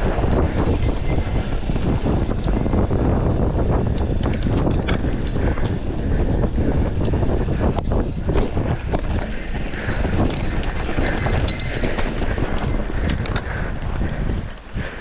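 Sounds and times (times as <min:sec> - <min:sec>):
bike clattering and rattling: 0:00.0 - 0:15.0
tyres rumbling over dirt: 0:00.0 - 0:15.0.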